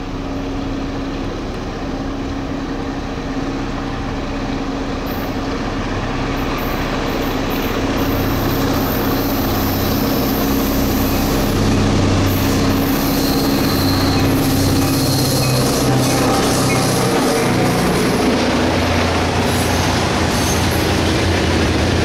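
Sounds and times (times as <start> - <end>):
diesel locomotive engine drone: 0.0 - 22.0
train rolling rumble: 0.0 - 22.0.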